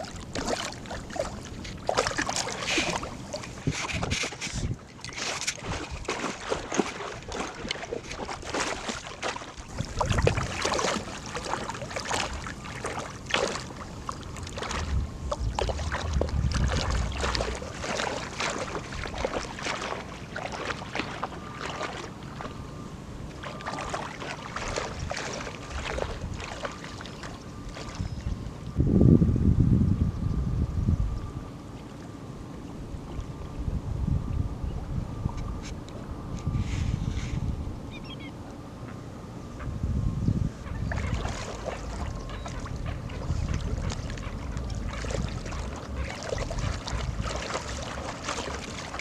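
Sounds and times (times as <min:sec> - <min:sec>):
water splashing and sloshing: 0:00.0 - 0:28.8, 0:31.6 - 0:34.4, 0:40.5 - 0:49.0.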